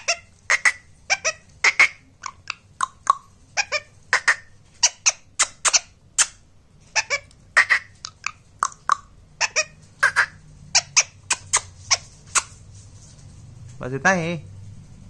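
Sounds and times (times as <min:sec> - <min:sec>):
parakeet chirping and squeaking: 0:00.0 - 0:12.7.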